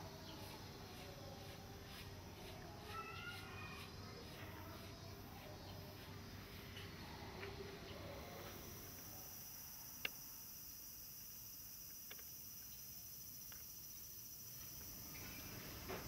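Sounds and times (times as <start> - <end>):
faint street ambience: 0.0 - 16.0
high-pitched insect trill: 0.0 - 16.0.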